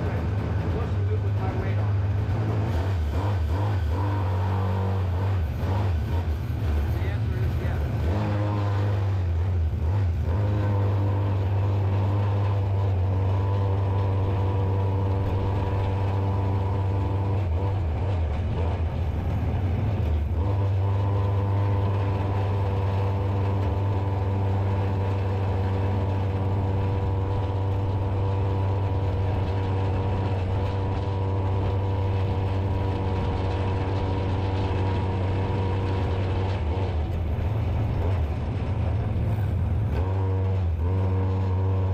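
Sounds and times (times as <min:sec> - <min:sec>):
two-stroke go-kart engine: 0:00.0 - 0:41.9.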